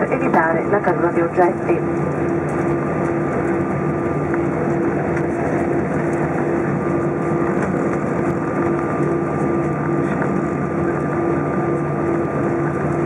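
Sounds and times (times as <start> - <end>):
aircraft cabin engine rush: 0.0 - 13.0
pulsing low hum: 0.0 - 13.0.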